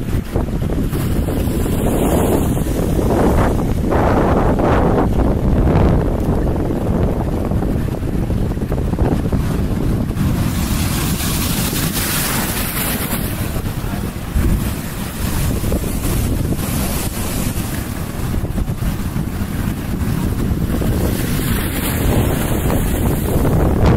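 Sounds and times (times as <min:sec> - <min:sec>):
sea waves breaking on rocks: 0:00.0 - 0:23.9
wind buffeting microphone: 0:00.0 - 0:23.9.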